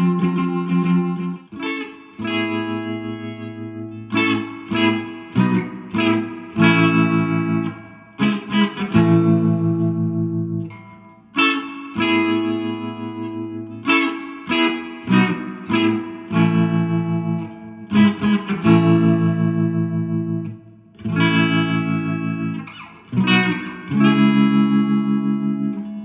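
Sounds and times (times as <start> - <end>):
electric guitar chords ringing: 0.0 - 26.0.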